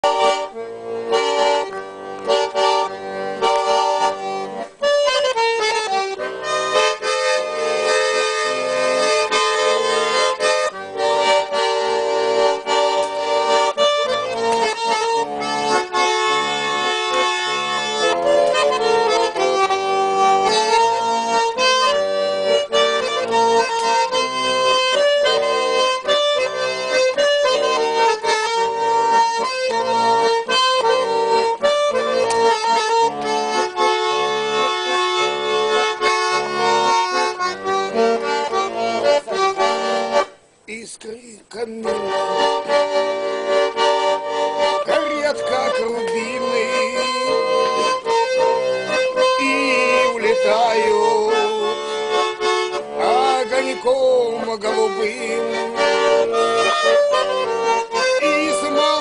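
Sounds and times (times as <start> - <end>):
button accordion playing chords: 0.0 - 59.0
rhythmic backing beat: 0.0 - 59.0.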